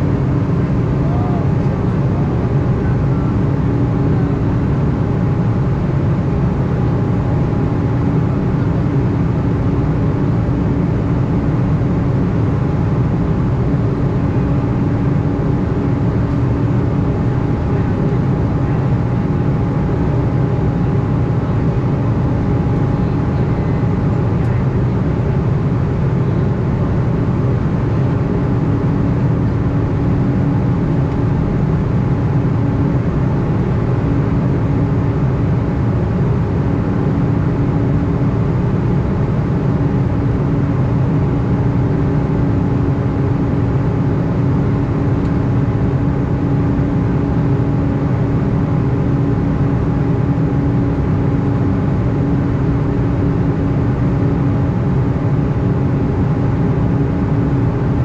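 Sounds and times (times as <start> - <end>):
airplane cabin jet noise: 0.0 - 58.0.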